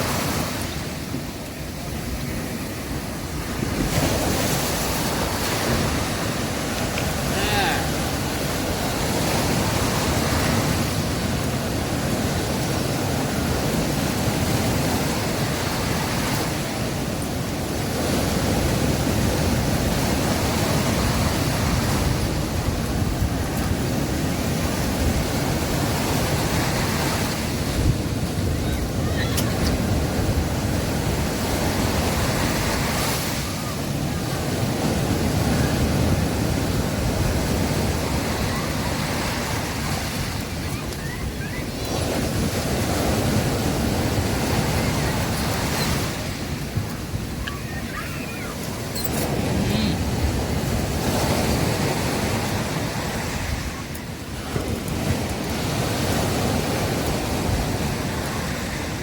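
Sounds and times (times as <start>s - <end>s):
sea waves washing onto beach: 0.0s - 59.0s.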